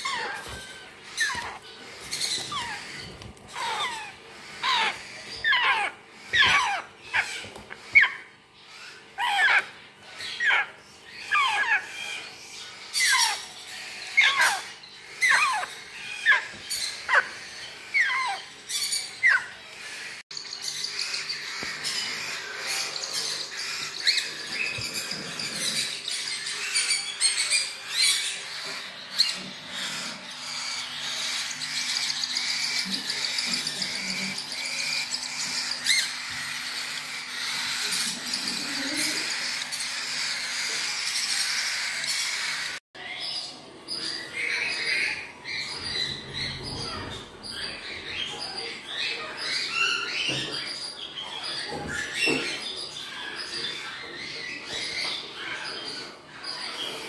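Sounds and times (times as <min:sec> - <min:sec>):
raspy chatter of rapid calls: 0:00.0 - 0:50.2
parrot chicks squawking: 0:00.0 - 0:57.0.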